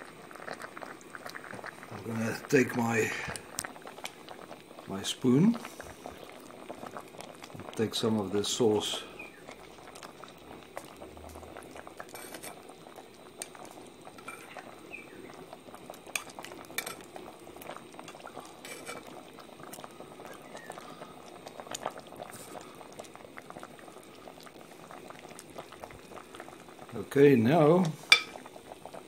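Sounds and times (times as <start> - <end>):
stew bubbling in a pot: 0.0 - 29.0.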